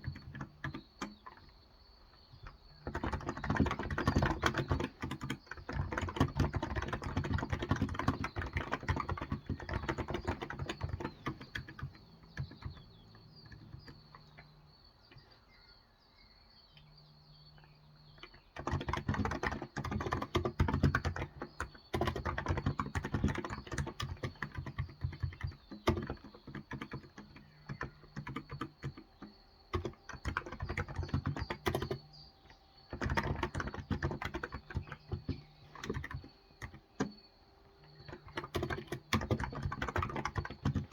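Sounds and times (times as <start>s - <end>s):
keyboard typing: 0.0s - 1.6s, 2.4s - 15.3s, 18.1s - 40.9s.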